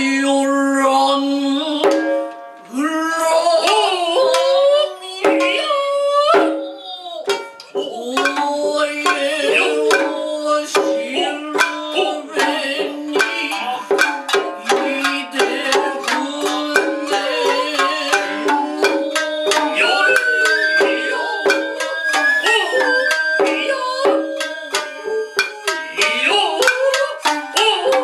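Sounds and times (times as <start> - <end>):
person singing held line: 0.0 - 28.0
shamisen plucking: 0.0 - 28.0
high bamboo flute: 1.5 - 28.0
hand drum strokes: 3.4 - 28.0.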